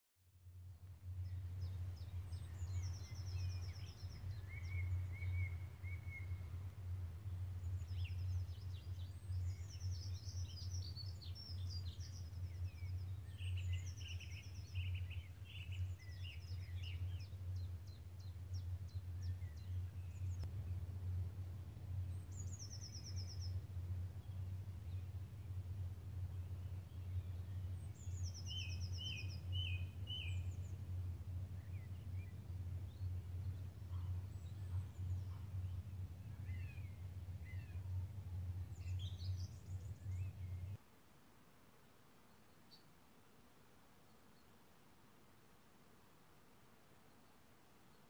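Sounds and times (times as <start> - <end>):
steady low rumble: 0.3 - 40.8
songbirds singing: 0.6 - 40.8.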